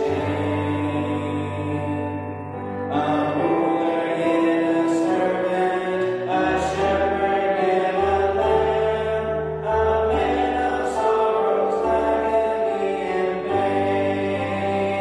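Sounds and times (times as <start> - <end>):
man singing a hymn: 0.0 - 15.0
piano chords: 0.0 - 15.0.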